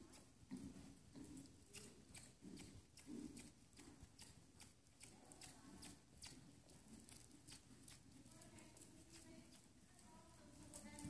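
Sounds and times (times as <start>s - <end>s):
horse hoofbeats on sand: 0.0s - 11.0s.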